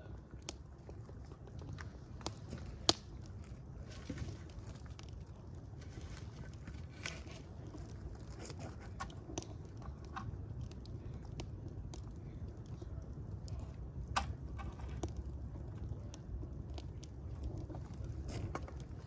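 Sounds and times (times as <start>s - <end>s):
fire popping: 0.0s - 19.0s
wood fire crackling: 0.0s - 19.0s.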